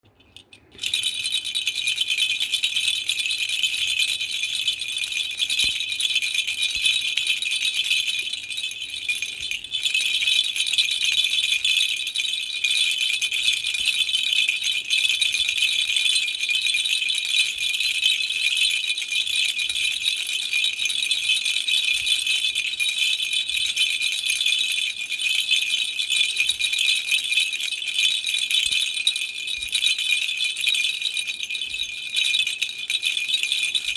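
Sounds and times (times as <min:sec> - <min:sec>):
baby rattle jingling: 0:00.2 - 0:33.9.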